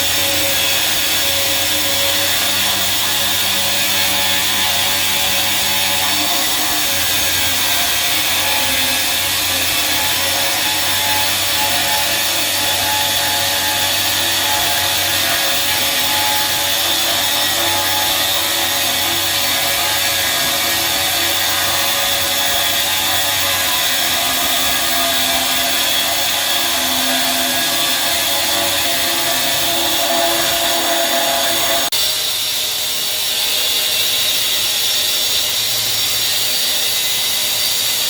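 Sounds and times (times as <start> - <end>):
power tool hissing: 0.0 - 38.0.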